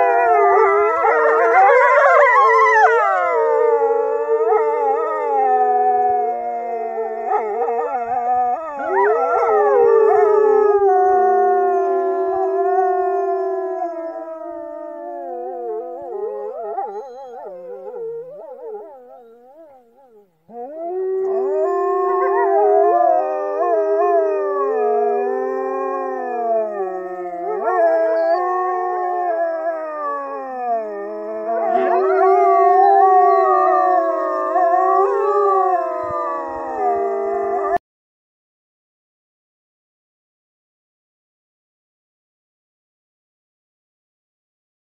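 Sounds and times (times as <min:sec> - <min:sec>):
wolves howling: 0:00.0 - 0:37.8.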